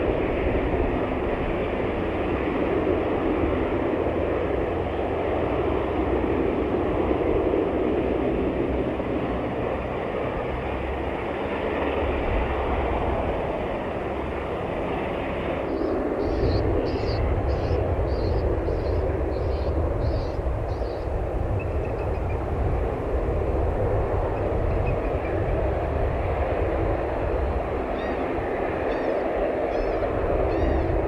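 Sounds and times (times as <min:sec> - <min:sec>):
aircraft engines running: 0:00.0 - 0:31.0.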